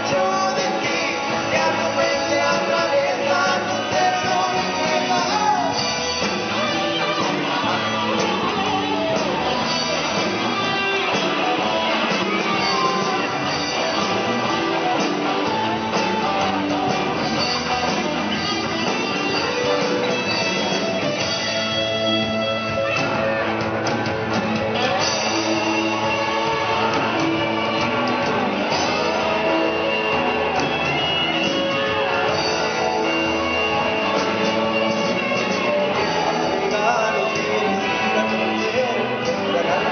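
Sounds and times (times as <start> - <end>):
drums: 0.0 - 39.9
electric guitars: 0.0 - 39.9
rock band playing live: 0.0 - 39.9.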